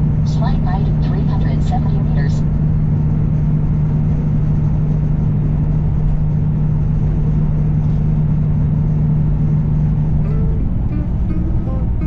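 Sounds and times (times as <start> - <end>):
road rumble: 0.0 - 12.0
truck engine drone: 0.0 - 12.0.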